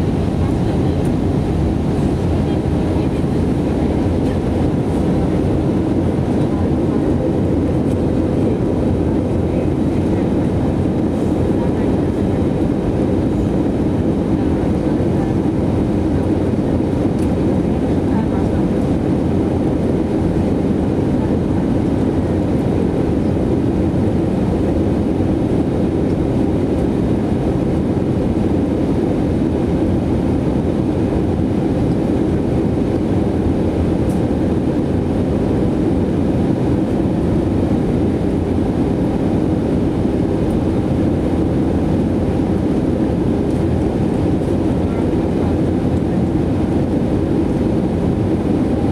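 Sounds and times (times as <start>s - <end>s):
airplane cabin engine rush: 0.0s - 48.9s.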